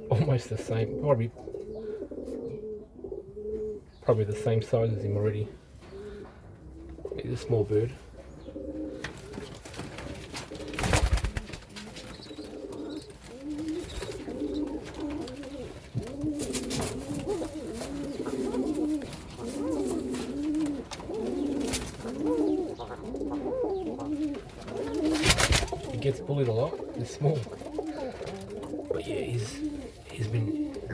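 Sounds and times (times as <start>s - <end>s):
pigeons cooing: 0.0s - 30.9s.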